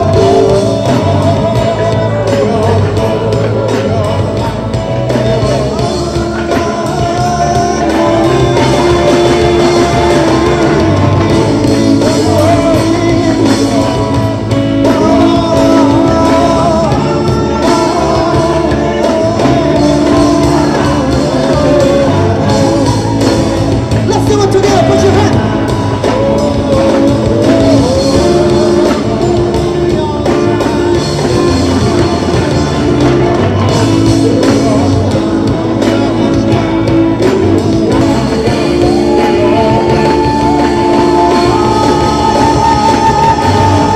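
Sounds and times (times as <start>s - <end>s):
live rock band playing: 0.0s - 43.9s
man singing into microphone: 0.0s - 43.9s.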